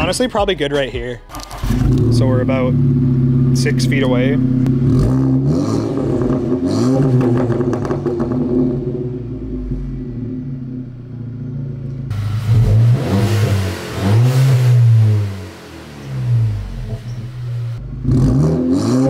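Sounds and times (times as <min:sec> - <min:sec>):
car engine revving: 0:01.0 - 0:19.0.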